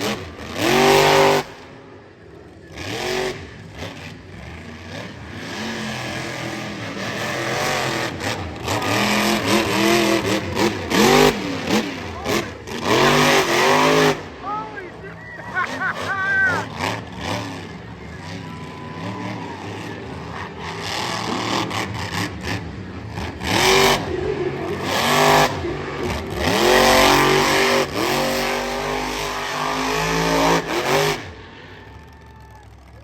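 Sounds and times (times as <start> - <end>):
monster truck engine revving: 0.0 - 33.0.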